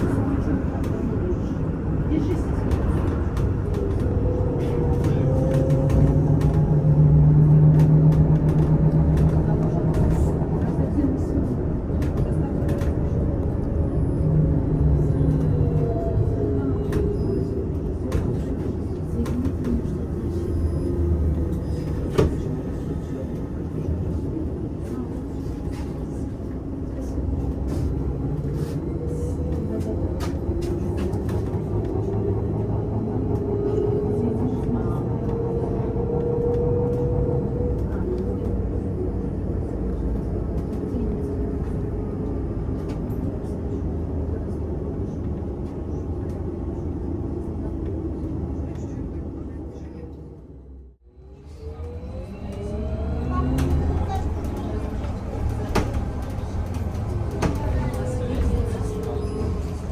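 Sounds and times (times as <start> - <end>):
trolleybus cabin rumble: 0.0 - 59.9.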